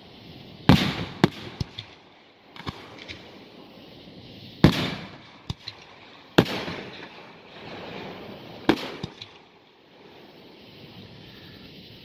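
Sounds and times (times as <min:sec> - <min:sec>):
firework booms with echo: 0:00.0 - 0:10.5
sharp firework cracks: 0:00.0 - 0:12.0.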